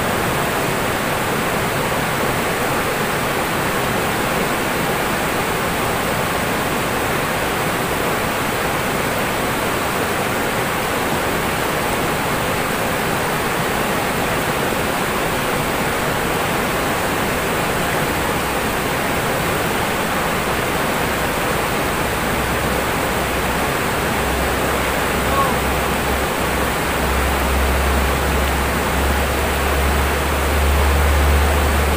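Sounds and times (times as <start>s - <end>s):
river water rushing over rocks: 0.0s - 31.9s.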